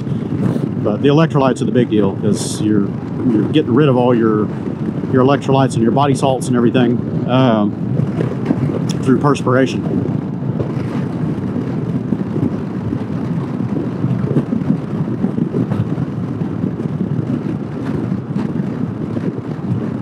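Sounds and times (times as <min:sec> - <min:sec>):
scooter road rumble: 0:00.0 - 0:20.0
wind rush: 0:00.0 - 0:20.0.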